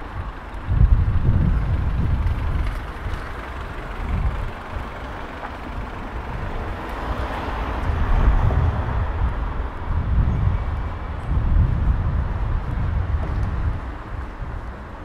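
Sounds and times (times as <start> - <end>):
low rumbles: 0.0 - 15.0.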